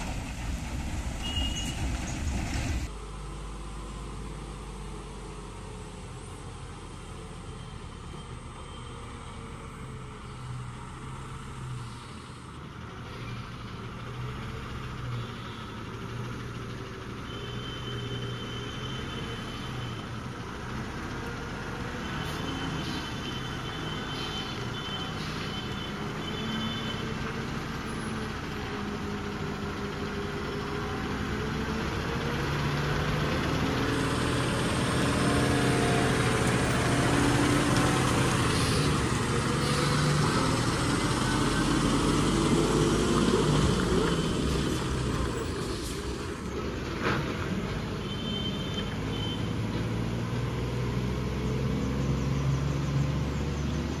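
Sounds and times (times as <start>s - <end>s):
lorry diesel engine labouring: 0.0s - 54.0s.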